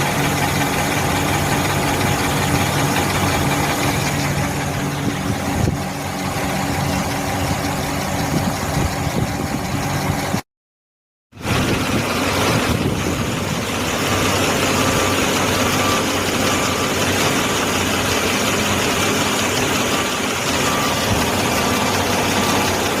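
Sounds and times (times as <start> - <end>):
car engine idling: 0.0 - 10.4, 11.4 - 23.0.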